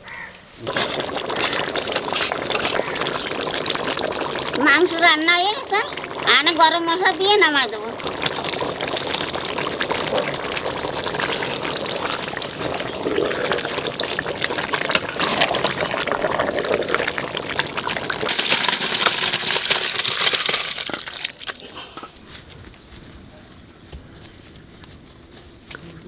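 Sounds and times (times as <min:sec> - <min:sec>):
liquid pouring with rushing hiss: 0:00.6 - 0:21.6
curry bubbling and popping: 0:00.6 - 0:22.1.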